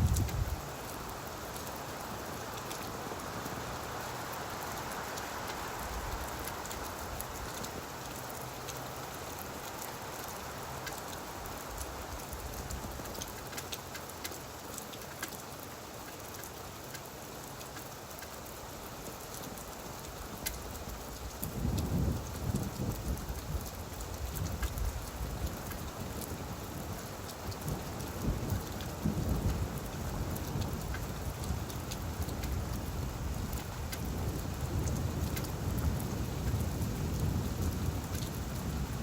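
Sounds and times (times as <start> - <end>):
rain falling on leaves: 0.0 - 39.0.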